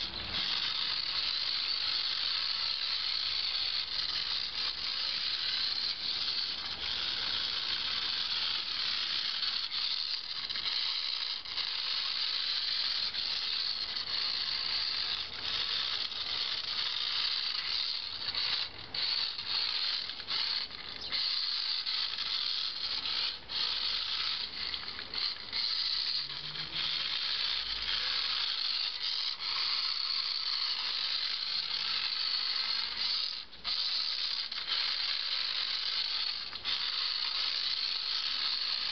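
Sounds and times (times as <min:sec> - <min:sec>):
toy car motor whirring: 0:00.0 - 0:38.9.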